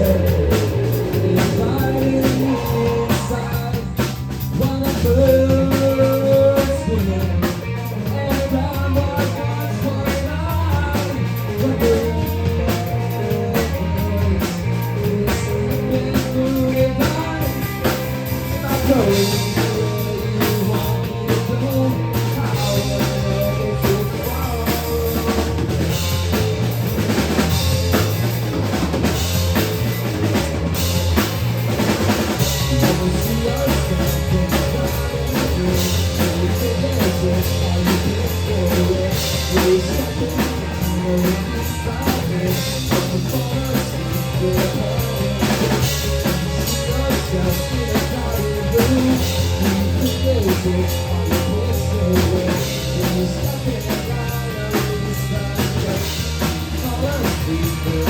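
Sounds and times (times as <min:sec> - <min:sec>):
bass and guitar: 0:00.0 - 0:58.0
drum kit beat: 0:00.0 - 0:58.0.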